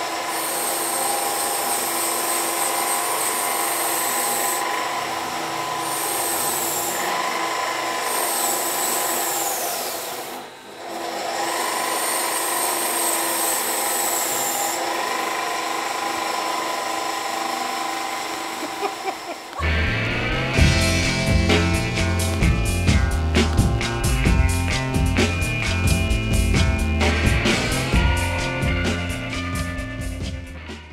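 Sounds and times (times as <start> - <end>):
belt sander whining: 0.0 - 30.6.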